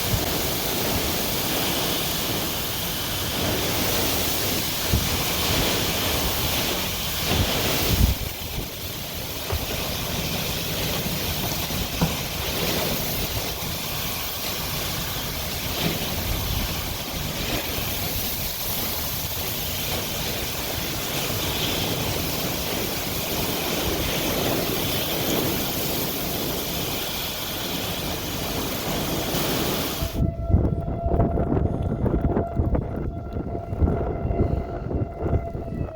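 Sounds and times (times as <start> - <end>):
heavy wind-driven rain: 0.0 - 35.9
wind buffeting microphone: 0.0 - 35.9.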